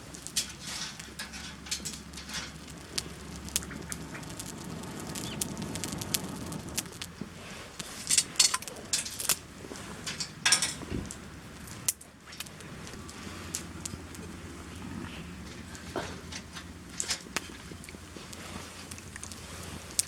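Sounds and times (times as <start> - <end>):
campfire crackling and popping: 0.0 - 20.0
low steady rush: 0.0 - 20.0.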